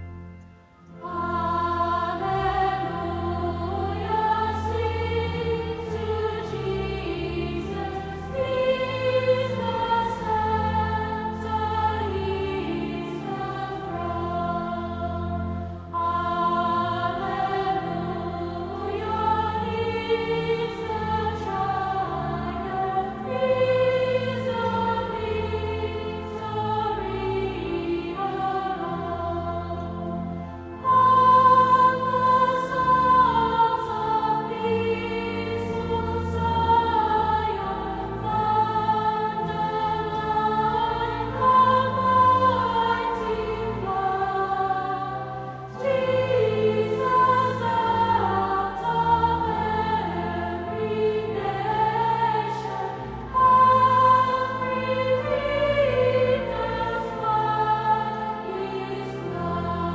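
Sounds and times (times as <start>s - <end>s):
choir singing a hymn: 0.0s - 59.9s
held low accompanying notes: 0.0s - 59.9s.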